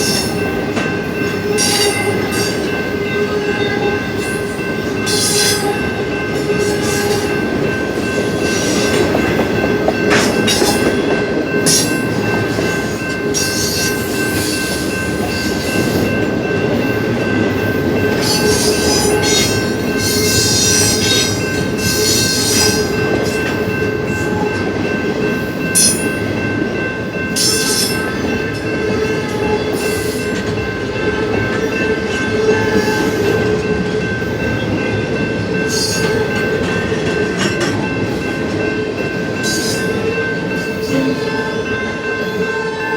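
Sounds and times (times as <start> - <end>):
train wheels rumbling: 0.0 - 42.8.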